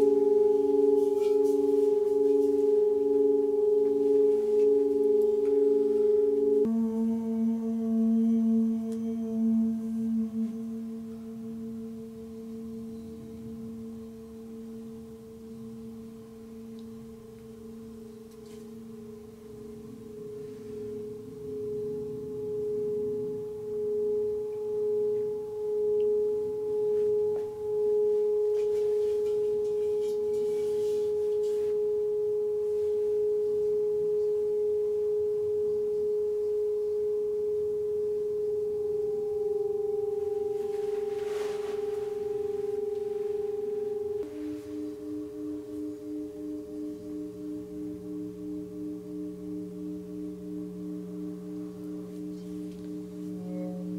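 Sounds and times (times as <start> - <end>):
lower pulsing tone: 0.0 - 53.9
singing bowl ringing tone: 0.0 - 53.9.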